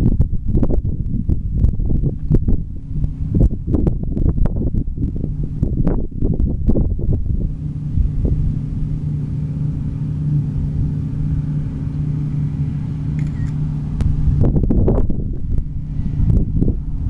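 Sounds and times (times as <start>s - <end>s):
combine harvester engine drone: 0.0s - 17.0s
wind buffeting microphone: 0.0s - 17.0s.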